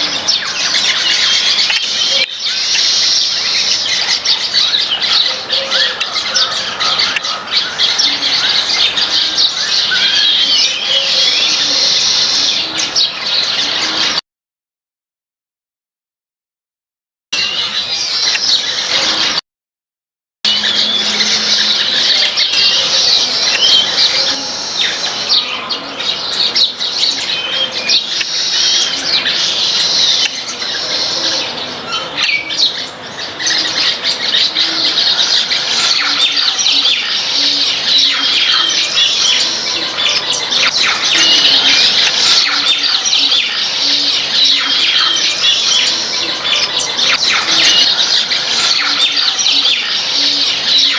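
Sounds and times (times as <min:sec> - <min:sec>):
flock of small birds chattering: 0:00.0 - 0:14.2, 0:17.4 - 0:19.4, 0:20.5 - 0:50.9.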